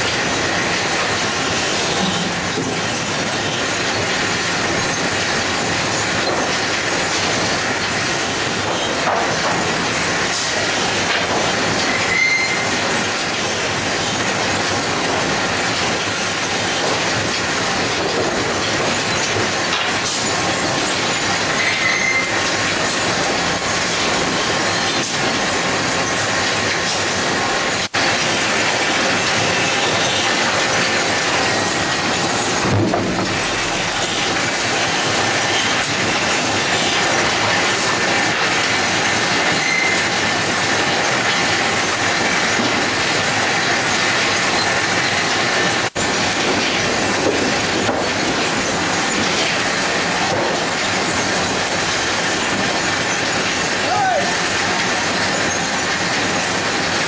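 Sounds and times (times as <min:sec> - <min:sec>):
conveyor metallic clatter and rumble: 0:00.0 - 0:57.0.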